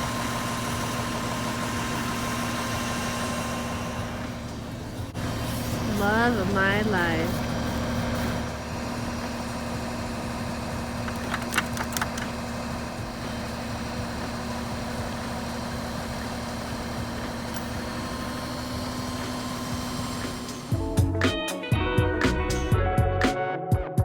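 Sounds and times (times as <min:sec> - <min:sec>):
engine idling: 0:00.0 - 0:21.3.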